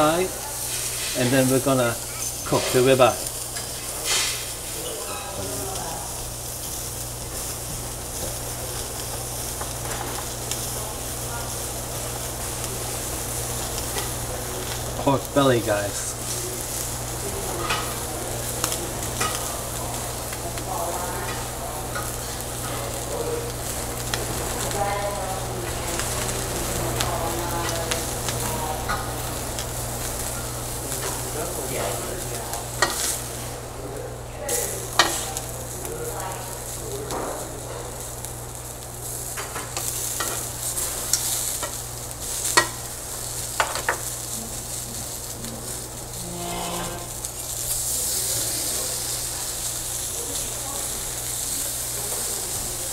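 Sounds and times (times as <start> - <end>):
meat sizzling on grill plate: 0.0 - 52.9.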